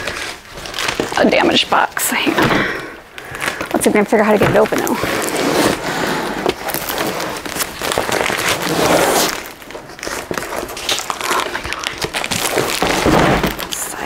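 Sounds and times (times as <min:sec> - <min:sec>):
cardboard and tape crinkling: 0:00.0 - 0:14.0.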